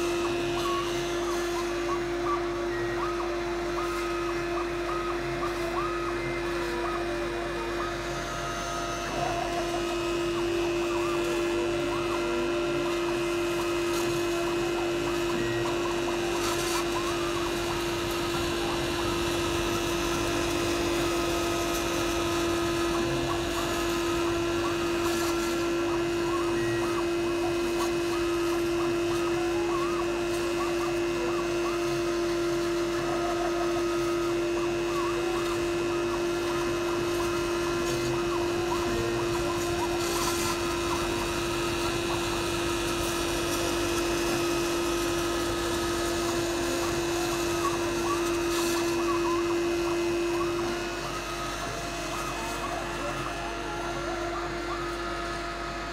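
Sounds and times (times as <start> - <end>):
spindle whine: 0.0 - 55.9
stepper motors singing tones: 0.0 - 55.9.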